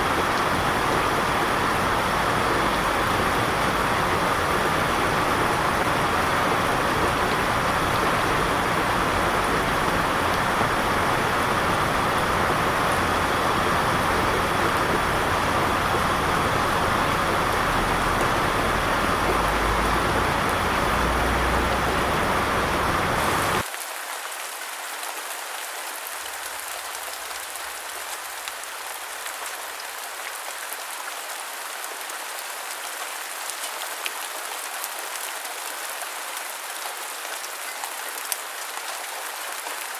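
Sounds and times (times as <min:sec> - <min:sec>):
loud rain: 0:00.0 - 0:39.9.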